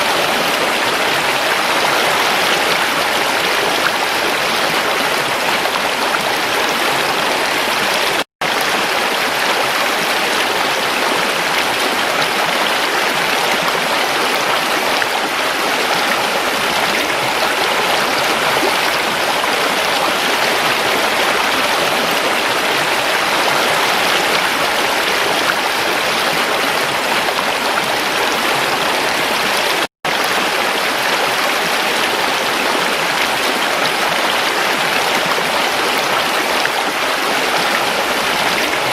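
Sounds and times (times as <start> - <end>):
creek water running: 0.0 - 38.9.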